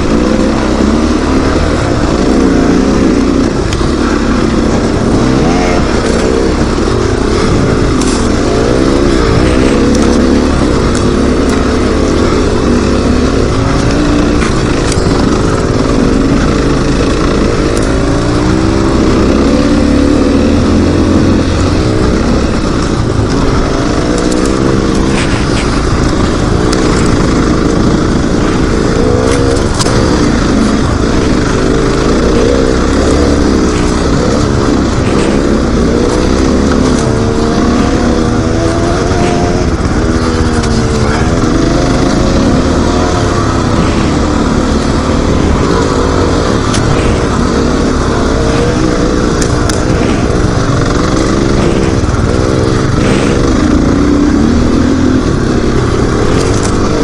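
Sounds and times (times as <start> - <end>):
dirt bike engine revving: 0.0 - 57.0
sharp ticks: 0.0 - 57.0
wind noise: 0.0 - 57.0.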